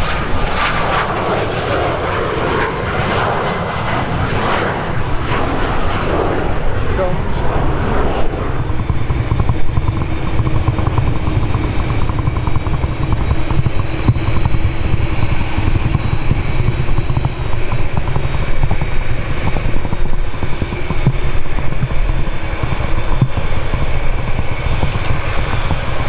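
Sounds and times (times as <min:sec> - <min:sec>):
jet engines humming: 0:00.0 - 0:26.0
wind buffeting microphone: 0:00.0 - 0:26.0.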